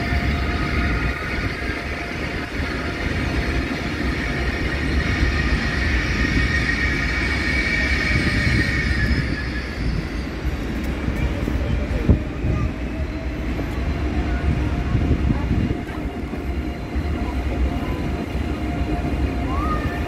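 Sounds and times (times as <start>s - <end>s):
train rumbling on steel bridge: 0.0s - 20.0s.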